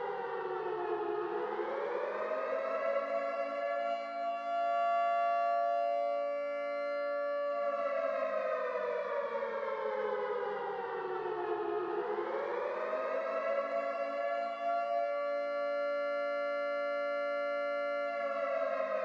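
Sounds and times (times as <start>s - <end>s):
civil defense siren: 0.0s - 19.0s.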